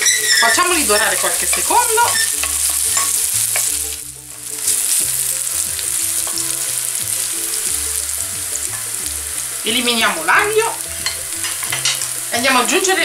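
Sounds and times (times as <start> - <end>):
garlic sizzling in oil: 0.0 - 13.0
wooden spoon stirring in pan: 0.0 - 13.0.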